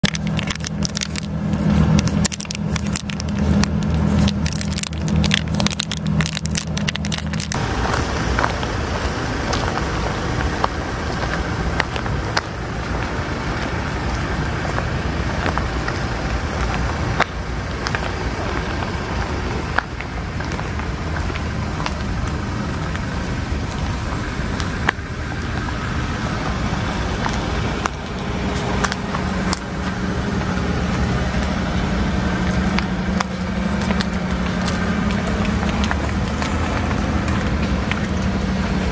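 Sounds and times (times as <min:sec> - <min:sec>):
steady outdoor noise: 0:00.0 - 0:38.9.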